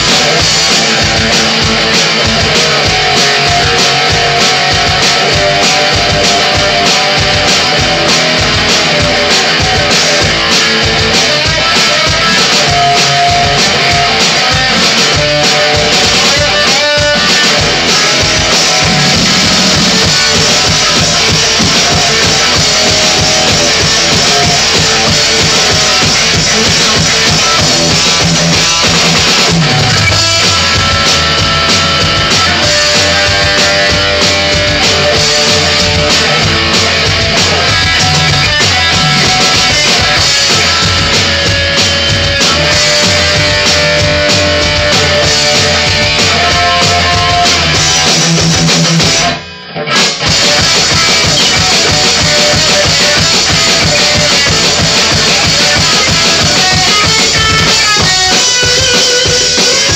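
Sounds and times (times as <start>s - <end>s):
electric guitar: 0.0s - 59.9s
electronic drum kit: 0.0s - 59.9s.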